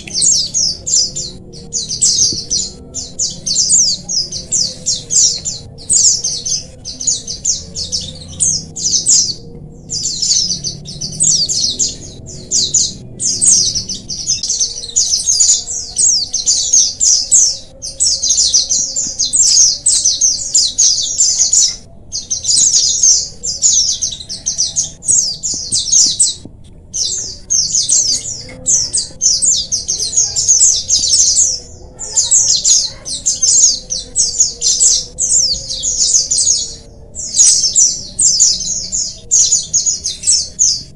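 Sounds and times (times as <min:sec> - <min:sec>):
flock of birds twittering: 0:00.0 - 0:40.9.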